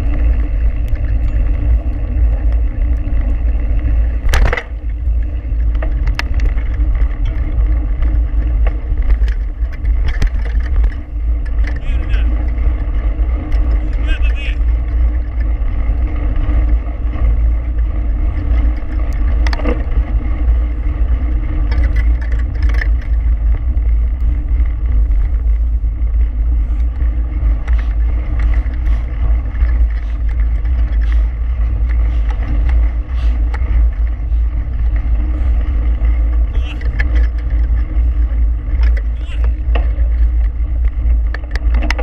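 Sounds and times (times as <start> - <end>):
bike clicks and rattles: 0.0 - 42.0
bike tyres rolling on gravel: 0.0 - 42.0
wind rumble on microphone: 0.0 - 42.0.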